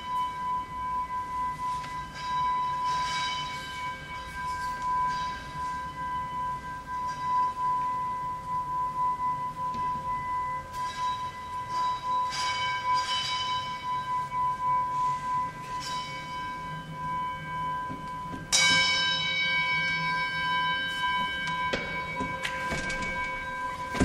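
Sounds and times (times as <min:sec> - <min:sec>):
bell-like metallic tones: 0:00.0 - 0:24.0
steady high tone: 0:00.0 - 0:24.0.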